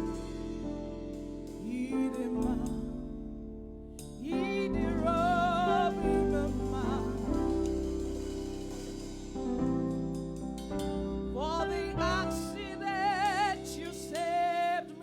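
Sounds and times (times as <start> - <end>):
low bass: 0.0 - 14.6
keyboard chords: 0.0 - 15.0.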